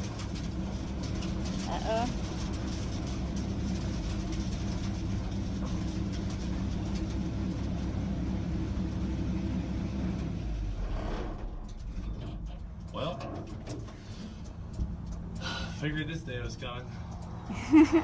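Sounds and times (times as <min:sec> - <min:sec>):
road noise: 0:00.0 - 0:18.0
truck engine running: 0:00.0 - 0:18.0.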